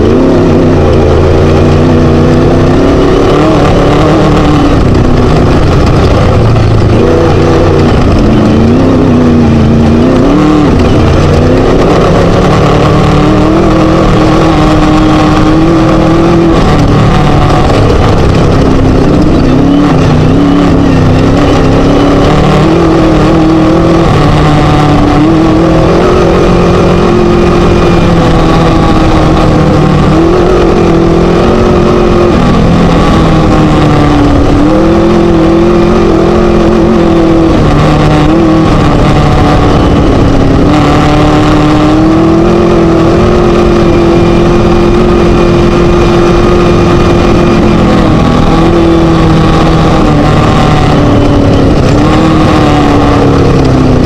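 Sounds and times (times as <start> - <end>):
buggy engine revving hard: 0.0 - 54.0.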